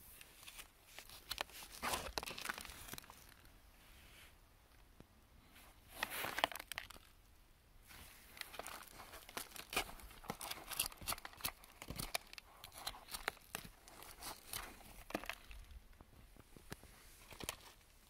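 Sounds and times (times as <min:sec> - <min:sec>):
rustling and crackling: 0:00.0 - 0:07.2, 0:07.8 - 0:18.0.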